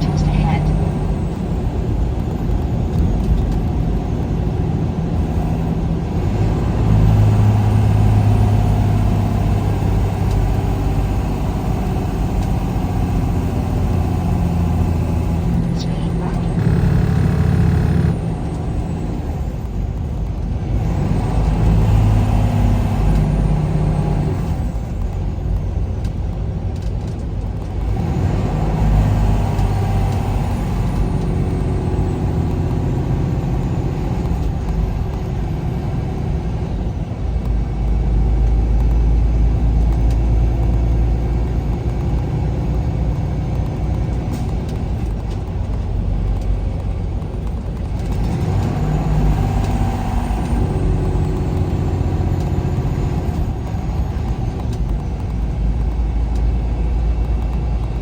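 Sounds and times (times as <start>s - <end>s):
road noise: 0.0s - 58.0s
truck engine: 0.0s - 58.0s.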